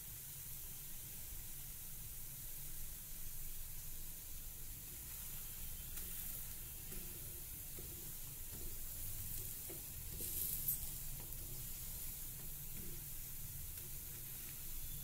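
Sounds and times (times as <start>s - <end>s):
batter sizzling on a griddle: 0.0s - 15.0s.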